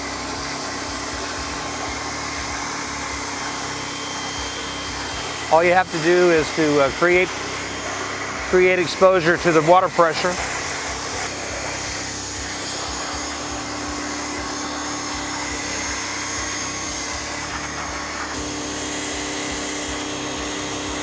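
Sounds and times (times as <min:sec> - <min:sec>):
pressure washer pump humming: 0:00.0 - 0:21.0
water jet hissing: 0:00.0 - 0:21.0.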